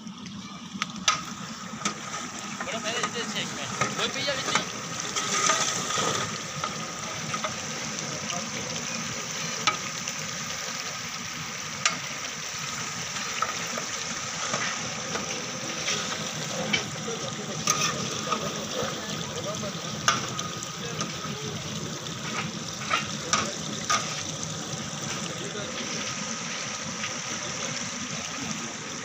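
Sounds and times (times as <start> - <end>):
hiss of frying: 0.0 - 29.0.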